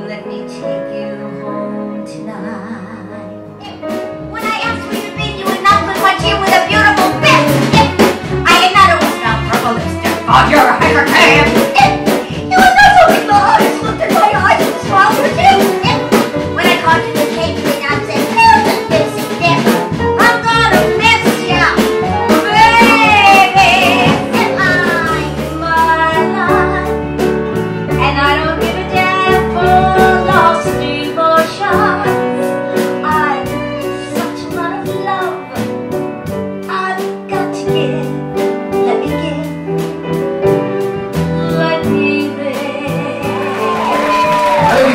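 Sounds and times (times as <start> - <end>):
woman singing jazz song: 0.0 - 27.2, 27.9 - 39.9, 41.1 - 44.9
upright bass: 3.4 - 44.9.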